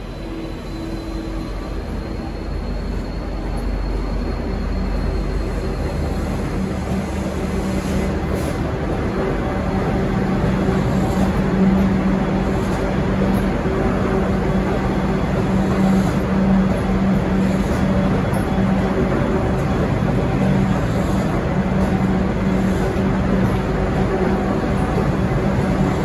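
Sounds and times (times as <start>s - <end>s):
train carriages rolling past: 0.0s - 26.0s.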